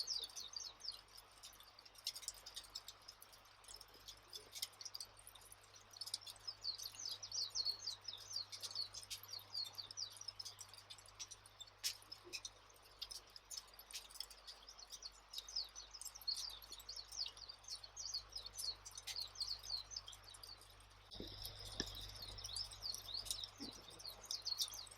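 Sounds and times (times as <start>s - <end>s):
campfire crackles: 0.0s - 24.9s
small birds chirping: 0.0s - 24.9s.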